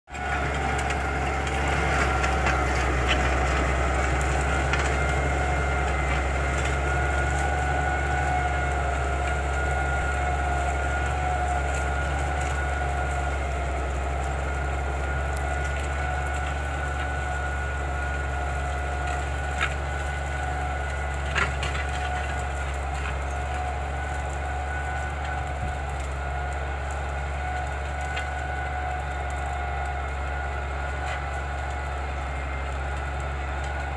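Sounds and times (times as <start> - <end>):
tractor diesel engine droning: 0.1 - 33.9.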